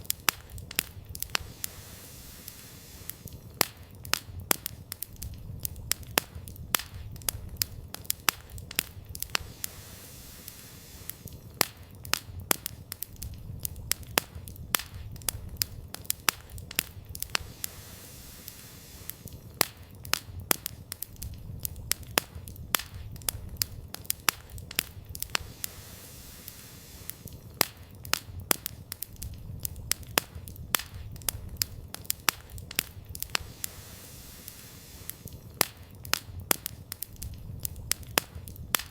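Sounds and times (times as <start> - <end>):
firewood crackling and popping: 0.0 - 38.9
low rumble of fire: 0.0 - 38.9.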